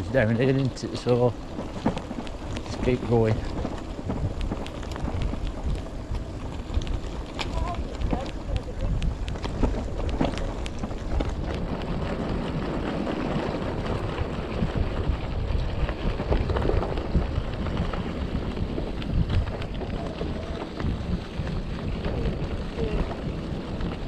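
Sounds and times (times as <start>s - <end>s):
small clicks and rattles: 0.0s - 24.0s
tyres rumbling on rough track: 0.0s - 24.0s
wind buffeting microphone: 0.0s - 24.0s.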